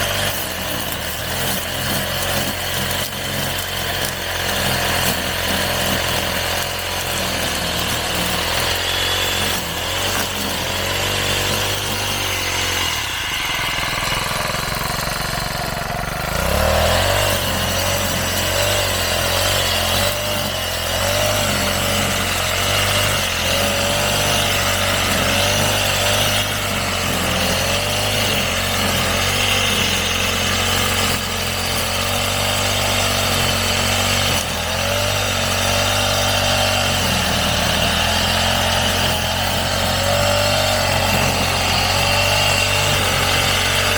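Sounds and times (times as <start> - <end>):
brush cutter engine cutting grass: 0.0 - 43.9.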